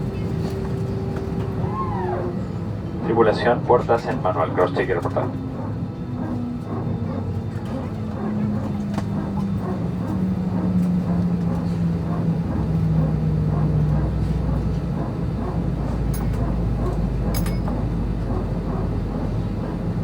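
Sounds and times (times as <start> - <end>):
deep steady cabin hum: 0.0 - 20.0
low drone sinking in pitch: 0.0 - 20.0
passenger chatter: 0.0 - 20.0.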